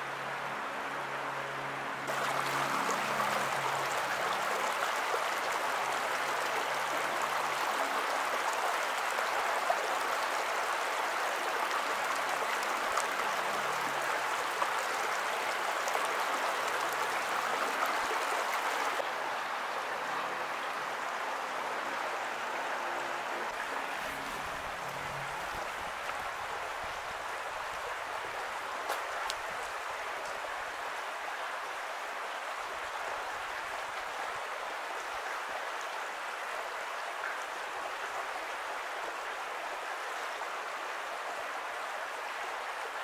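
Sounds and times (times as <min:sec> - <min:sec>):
creek water running over rocks: 0:00.0 - 0:43.0.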